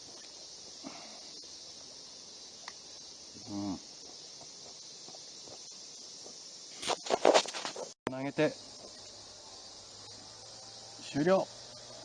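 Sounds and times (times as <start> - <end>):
insect chorus chirring: 0.0 - 12.0.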